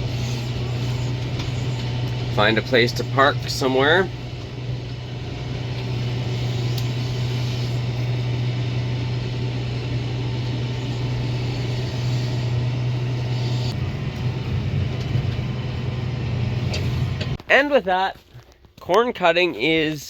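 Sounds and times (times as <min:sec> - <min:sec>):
farm vehicle engine droning: 0:00.0 - 0:17.4.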